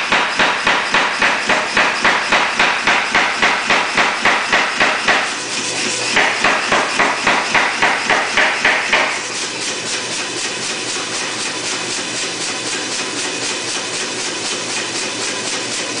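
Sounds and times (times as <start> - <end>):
power hammer striking hot steel: 0.0 - 13.8
power hammer idling beat: 0.0 - 16.0.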